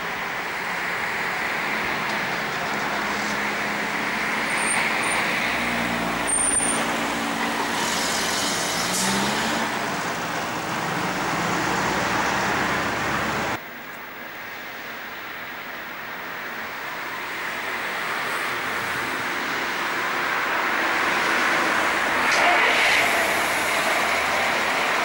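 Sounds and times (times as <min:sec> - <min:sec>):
vehicle engine: 0:00.0 - 0:13.6, 0:17.1 - 0:25.0
road noise: 0:00.0 - 0:25.0.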